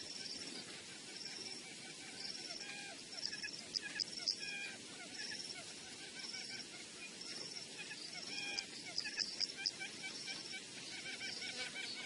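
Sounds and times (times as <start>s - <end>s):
wild birds chirping: 0.0s - 12.0s.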